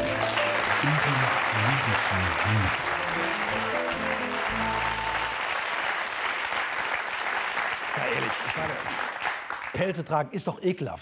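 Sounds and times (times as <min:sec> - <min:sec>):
studio audience applauding: 0:00.0 - 0:10.3.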